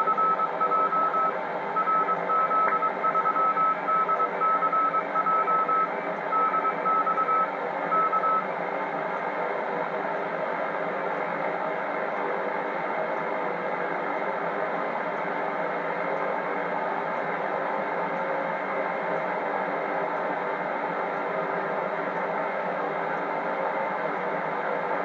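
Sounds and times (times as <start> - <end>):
faint steady tones: 0.0 - 25.0.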